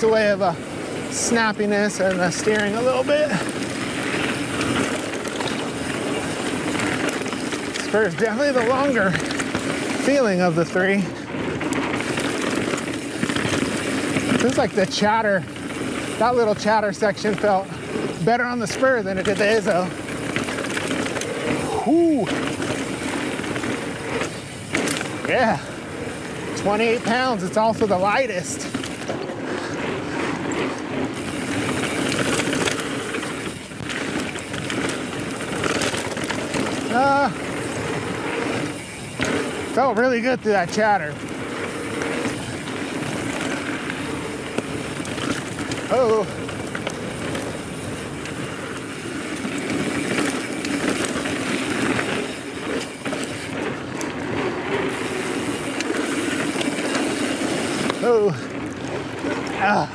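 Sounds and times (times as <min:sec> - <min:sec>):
bike clicking and rattling: 0:00.0 - 0:59.9
tyres crunching on gravel: 0:00.0 - 0:59.9
bicycle freehub ratchet ticking: 0:00.2 - 0:59.9.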